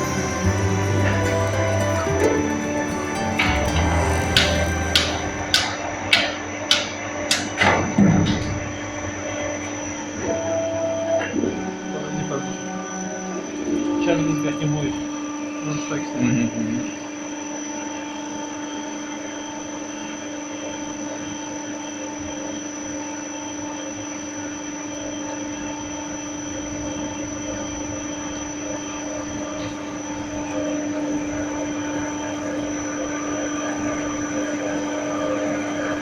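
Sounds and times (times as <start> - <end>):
lathe humming and whining: 0.0 - 36.0.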